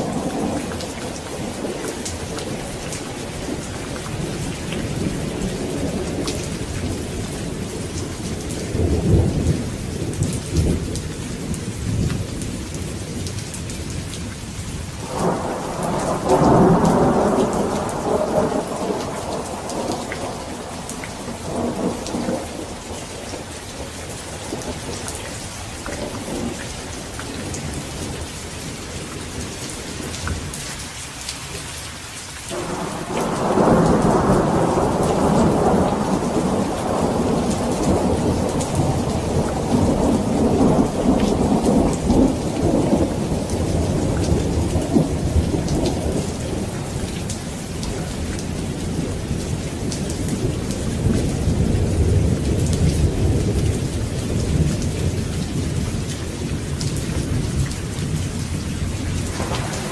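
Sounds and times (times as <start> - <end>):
rolling thunder: 0.0 - 14.1, 15.0 - 30.6, 32.5 - 59.9
steady rain falling: 0.0 - 59.9.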